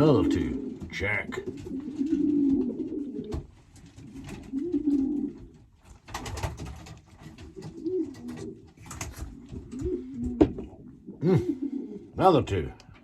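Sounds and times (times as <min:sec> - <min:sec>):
pigeons cooing: 0:00.0 - 0:05.8, 0:06.9 - 0:12.2.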